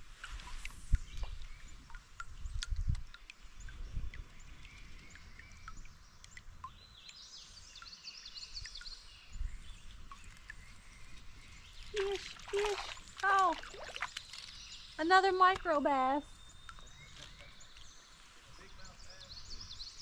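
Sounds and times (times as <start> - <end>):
small birds chirping: 0.7 - 20.0.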